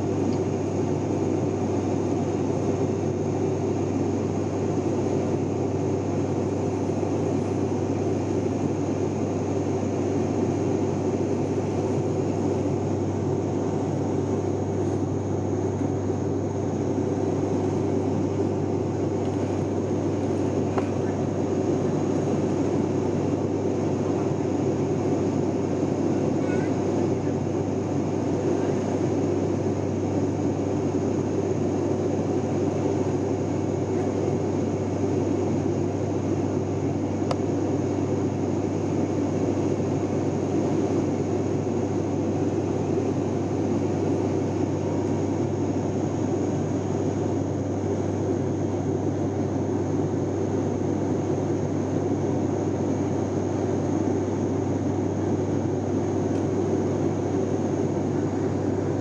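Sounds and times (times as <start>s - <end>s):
propeller plane cabin drone: 0.0s - 59.0s.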